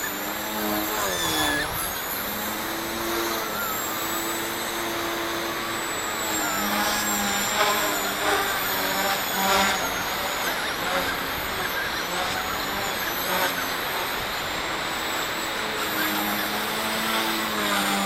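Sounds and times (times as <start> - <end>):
helicopter rotor buzz: 0.0 - 18.0
motor and gears whine: 0.0 - 18.0.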